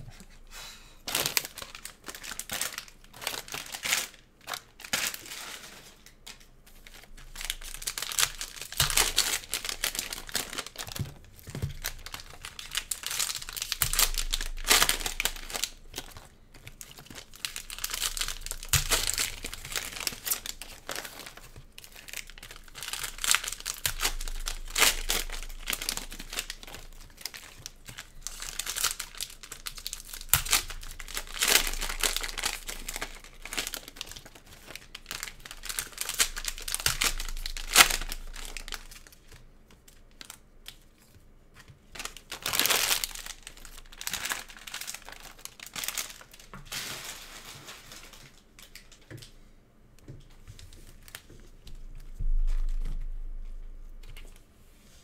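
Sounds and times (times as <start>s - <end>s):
plastic wrappers crinkling and tearing: 1.0s - 49.4s, 50.2s - 54.5s.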